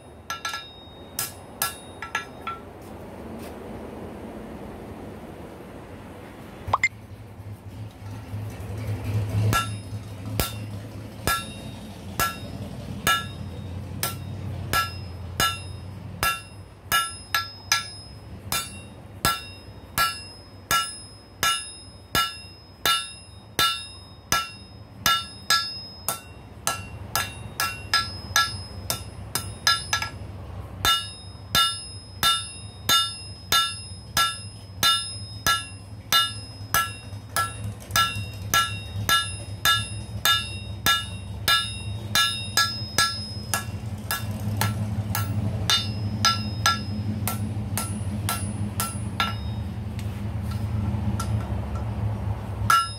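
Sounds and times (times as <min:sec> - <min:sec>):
hammer striking ringing anvil: 0:00.0 - 0:02.7, 0:09.5 - 0:30.2, 0:30.8 - 0:49.8, 0:51.2 - 0:51.9, 0:52.6 - 0:52.9.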